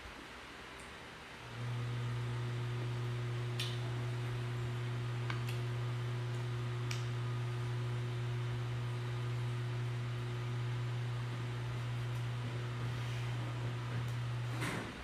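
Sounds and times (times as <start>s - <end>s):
steady low hum: 1.3s - 15.0s.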